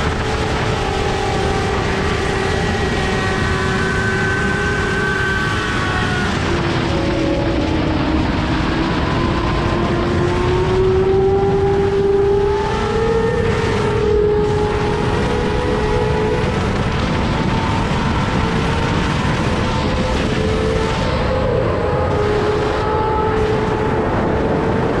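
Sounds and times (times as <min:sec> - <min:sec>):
heavy wind noise: 0:00.0 - 0:25.0
motorcycle engine at speed: 0:00.0 - 0:25.0.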